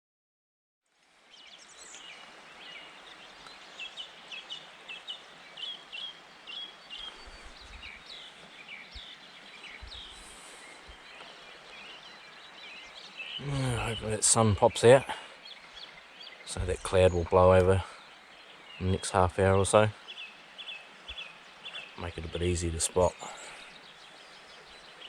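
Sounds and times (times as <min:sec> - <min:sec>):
outdoor background hiss: 0:00.9 - 0:25.0
birds chirping: 0:01.3 - 0:25.0.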